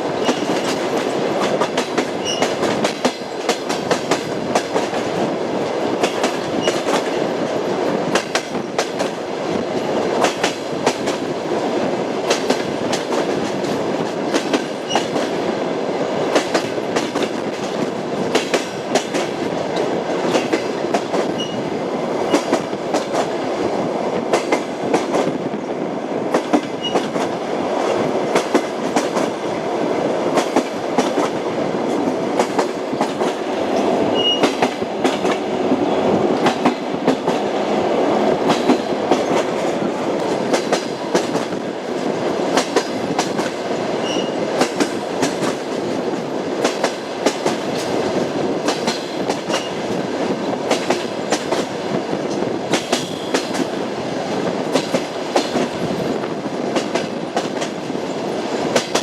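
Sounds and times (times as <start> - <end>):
train wheels clicking over rail joints: 0.0 - 15.5, 16.2 - 25.6, 26.2 - 59.0
moving train rumble: 0.0 - 59.0.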